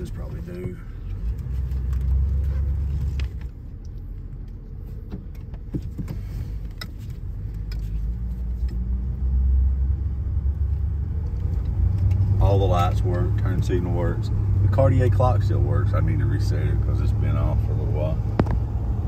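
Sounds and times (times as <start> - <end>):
car engine rumble in cabin: 0.0 - 19.0.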